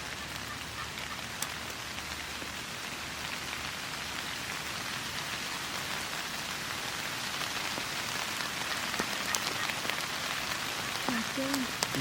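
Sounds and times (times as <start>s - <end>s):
rain drop ticks: 0.0s - 12.0s
steady rain hiss: 0.0s - 12.0s.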